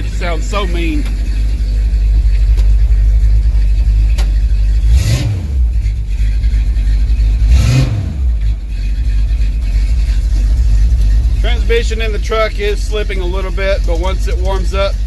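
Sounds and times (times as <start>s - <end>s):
pickup truck engine revving: 0.0s - 15.0s.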